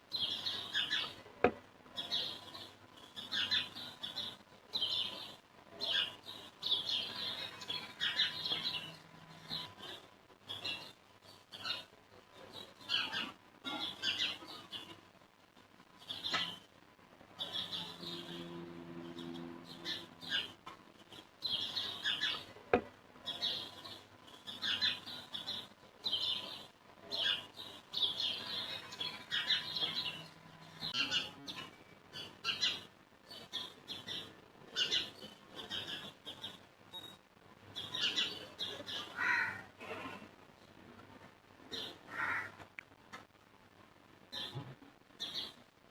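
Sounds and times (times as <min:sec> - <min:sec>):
small birds chirping: 0:00.1 - 0:15.1, 0:15.8 - 0:42.9, 0:44.3 - 0:45.8.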